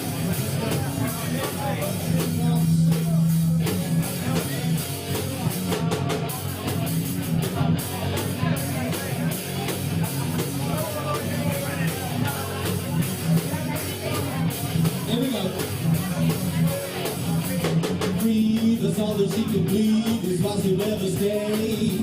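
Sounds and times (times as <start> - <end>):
bass guitar: 0.0 - 22.0
drum kit: 0.0 - 22.0
electric guitar: 0.0 - 22.0.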